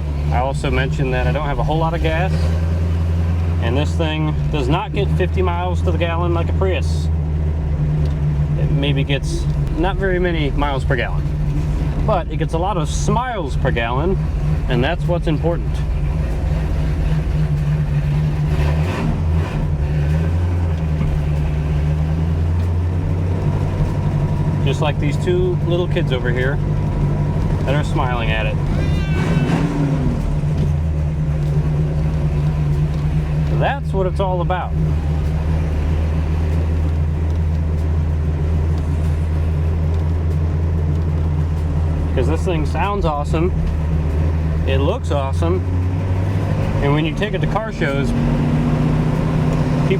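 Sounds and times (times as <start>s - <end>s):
car engine drone from inside cabin: 0.0s - 49.9s.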